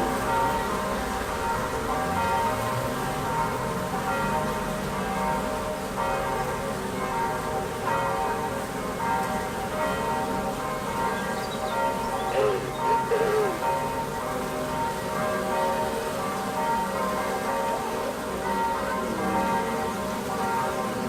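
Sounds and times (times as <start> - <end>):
church bells pealing: 0.0 - 21.0.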